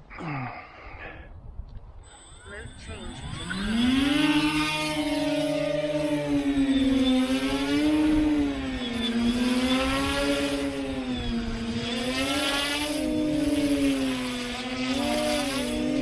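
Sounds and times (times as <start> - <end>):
wind rumble on microphone: 0.8 - 16.0
drone propellers buzzing: 2.0 - 16.0.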